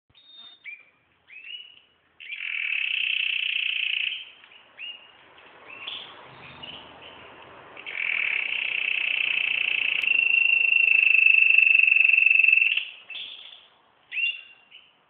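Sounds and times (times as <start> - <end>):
songbird chirping and trilling: 0.1 - 15.0.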